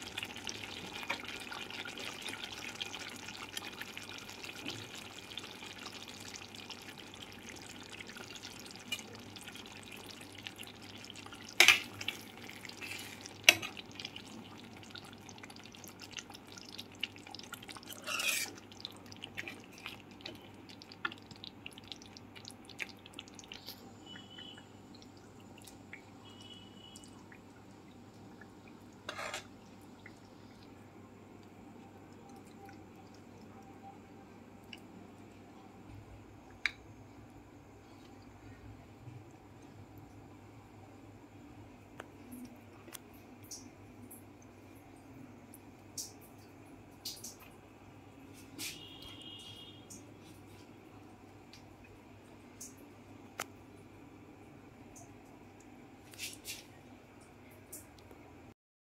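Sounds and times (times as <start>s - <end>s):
curry simmering and bubbling: 0.0s - 58.2s.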